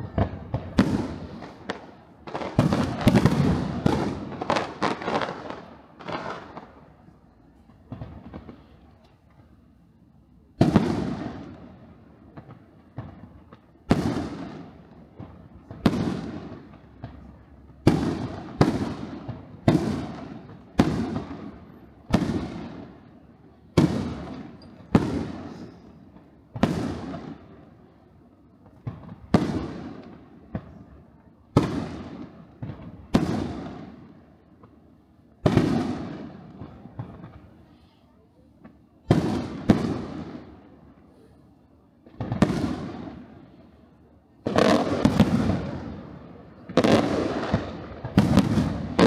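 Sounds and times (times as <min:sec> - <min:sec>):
firework crackles: 0:00.0 - 0:49.0.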